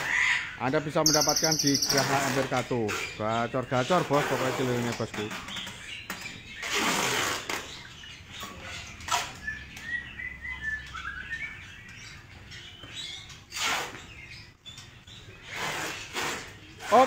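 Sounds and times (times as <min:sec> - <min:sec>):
caged songbirds chirping: 0:00.0 - 0:17.0.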